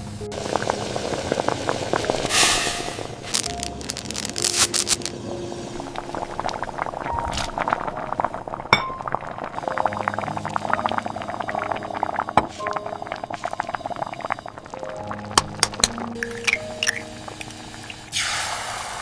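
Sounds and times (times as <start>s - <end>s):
rain pattering: 0.0s - 2.3s, 2.9s - 18.1s.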